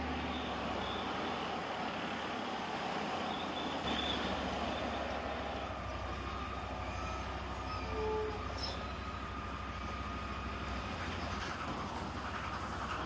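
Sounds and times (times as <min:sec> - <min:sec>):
armoured vehicle engine rumble: 0:00.0 - 0:13.0.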